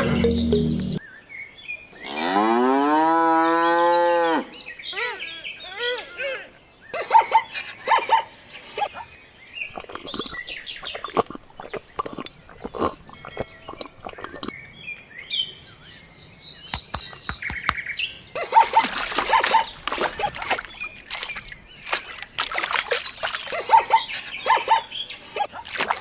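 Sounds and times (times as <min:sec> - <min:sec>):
birds chirping: 0:00.0 - 0:02.2, 0:06.6 - 0:26.0.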